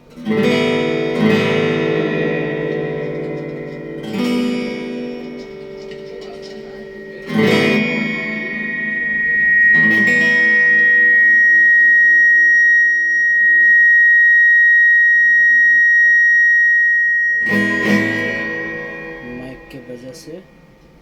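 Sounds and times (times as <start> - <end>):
acoustic guitar chords ringing: 0.0 - 21.0
high steady tone: 0.0 - 21.0.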